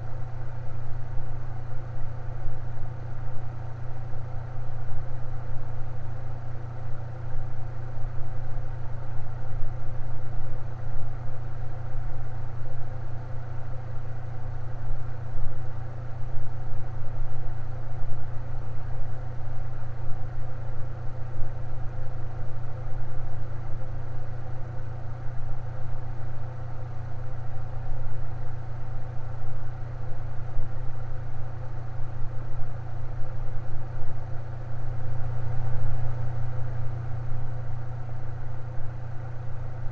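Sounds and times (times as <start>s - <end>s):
electric fan whirring: 0.0s - 39.9s.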